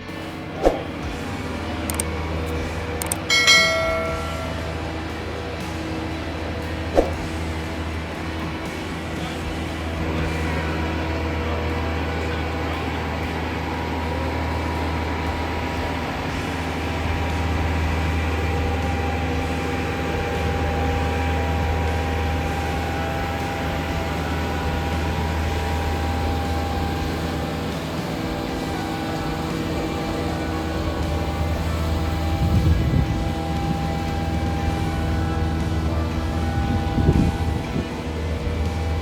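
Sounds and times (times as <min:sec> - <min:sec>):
faint whining tones: 0:00.0 - 0:39.0
jet cabin engine rumble: 0:00.0 - 0:39.0.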